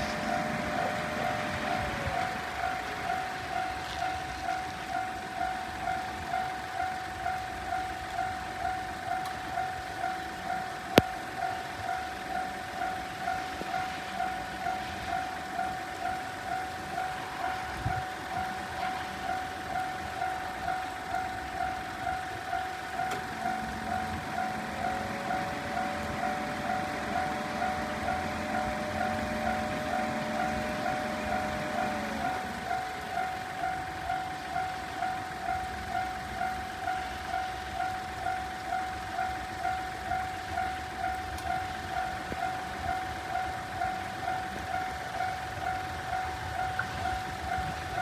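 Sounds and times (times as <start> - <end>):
level crossing alarm ringing: 0.0 - 48.0.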